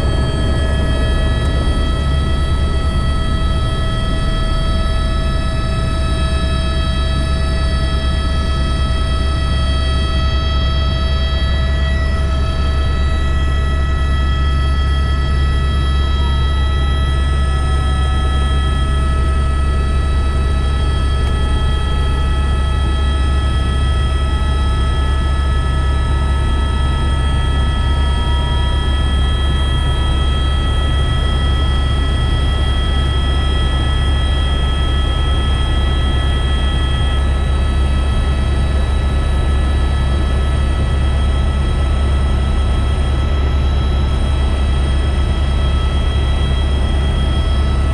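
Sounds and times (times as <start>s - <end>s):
helicopter rotor and engine rumble: 0.0s - 47.9s
high-pitched whine: 0.0s - 47.9s.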